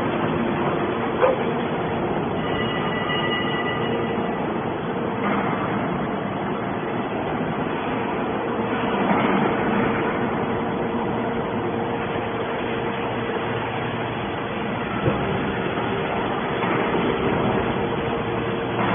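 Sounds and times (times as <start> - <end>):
hydraulic baler motor and pump: 0.0 - 18.9.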